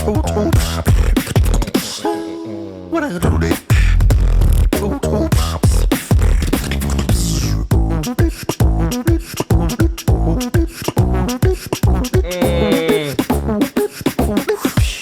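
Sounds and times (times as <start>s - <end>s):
vocal beatbox kick and snare: 0.0s - 2.0s, 3.2s - 15.0s.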